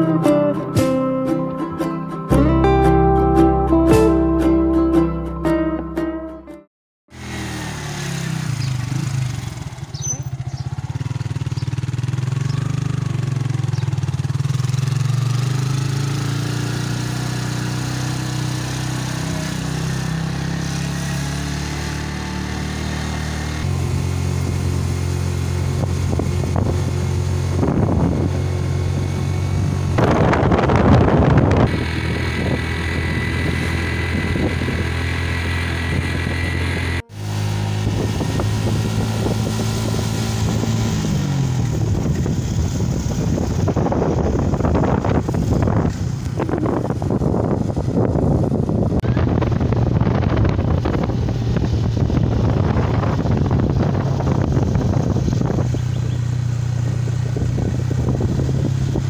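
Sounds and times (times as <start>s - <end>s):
motorcycle engine running under load: 7.1s - 59.0s.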